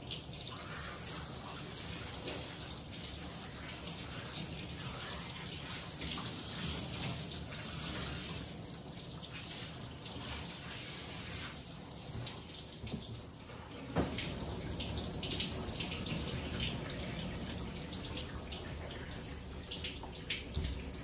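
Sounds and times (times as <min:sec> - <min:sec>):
running water splashing: 0:00.0 - 0:21.0.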